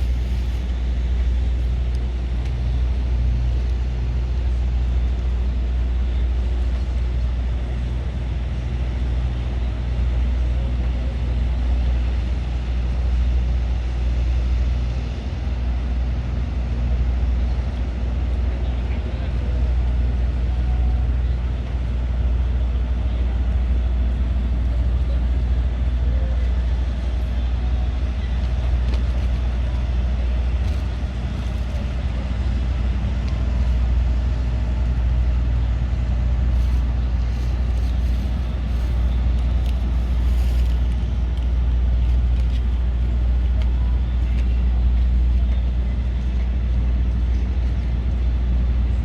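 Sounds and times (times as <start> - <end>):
low mechanical drone: 0.0 - 49.0.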